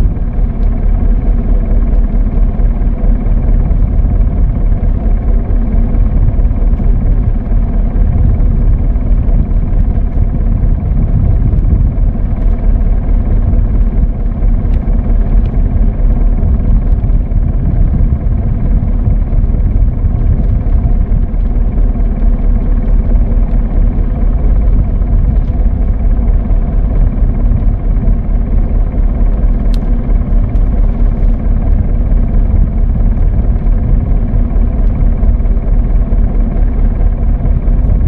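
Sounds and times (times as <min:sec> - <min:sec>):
boat engine rumbling: 0:00.0 - 0:38.0.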